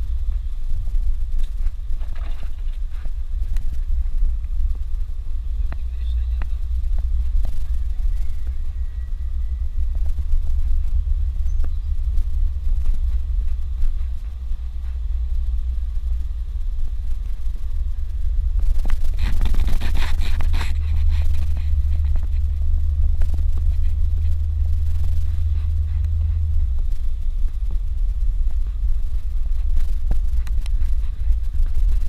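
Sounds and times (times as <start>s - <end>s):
car driving on dirt road: 0.0s - 32.0s
scraping and rattling: 0.0s - 32.0s.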